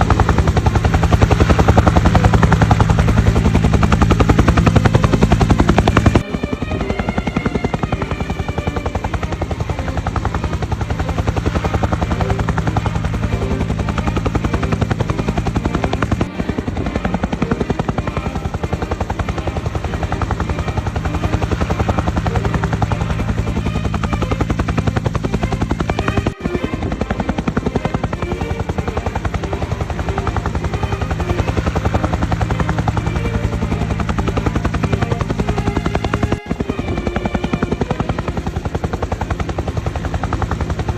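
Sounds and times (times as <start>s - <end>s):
engine hum: 0.0s - 40.9s
helicopter rotor blades beating: 0.0s - 40.9s.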